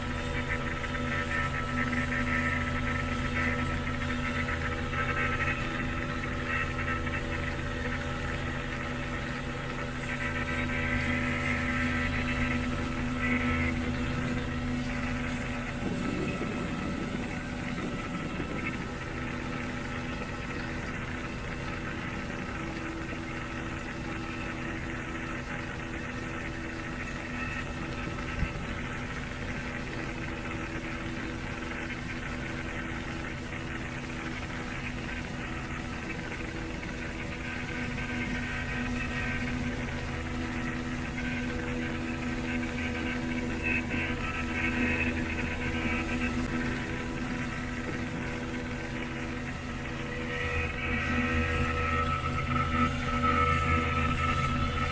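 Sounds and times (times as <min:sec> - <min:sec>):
outboard motor running: 0:00.0 - 0:54.9
water rushing from wake: 0:00.0 - 0:54.9.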